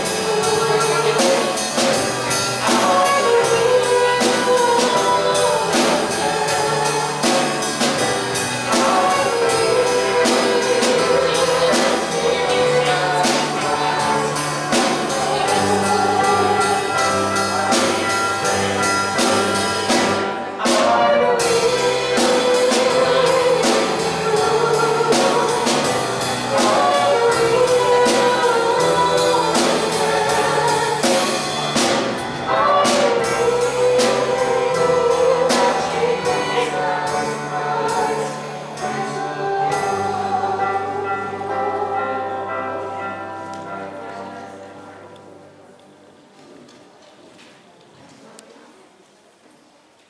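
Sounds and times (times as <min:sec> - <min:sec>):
drum kit: 0:00.0 - 0:43.2
person singing: 0:00.0 - 0:45.0
guitar: 0:00.0 - 0:45.3
keyboard: 0:00.0 - 0:46.4.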